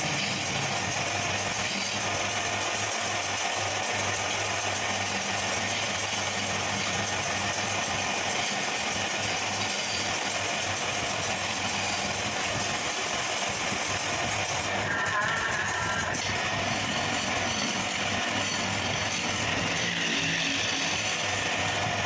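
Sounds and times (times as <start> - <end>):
chisel scraping spinning wood: 0.0 - 22.0
wood lathe motor hum: 0.0 - 22.0.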